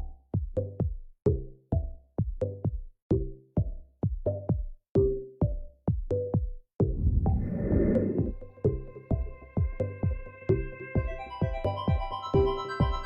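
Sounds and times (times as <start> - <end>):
electronic music with drum-machine beat: 0.0 - 13.0.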